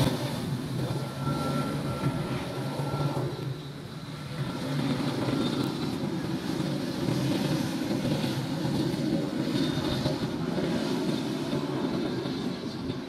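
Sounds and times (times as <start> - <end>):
plane engine and propeller droning: 0.0 - 13.0.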